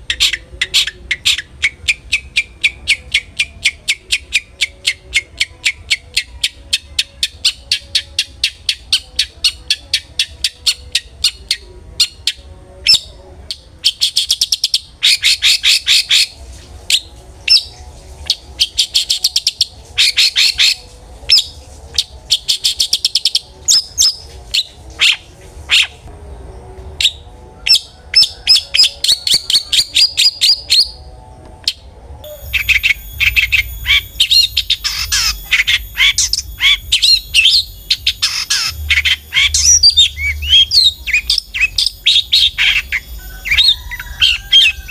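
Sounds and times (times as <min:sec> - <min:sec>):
bird chattering song: 0:00.0 - 0:26.1, 0:26.8 - 0:31.0, 0:31.6 - 0:44.9.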